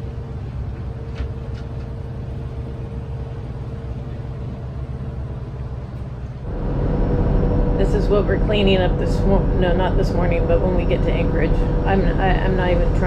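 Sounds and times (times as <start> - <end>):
diesel boat engine droning: 0.0 - 13.0
steady hum: 0.0 - 13.0.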